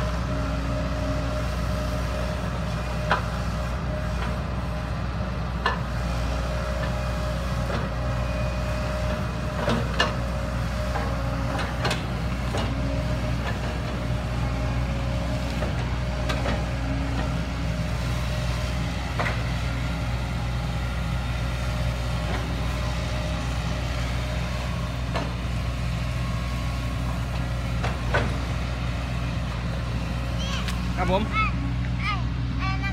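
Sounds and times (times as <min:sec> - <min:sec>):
heavy diesel engine running: 0:00.0 - 0:32.9.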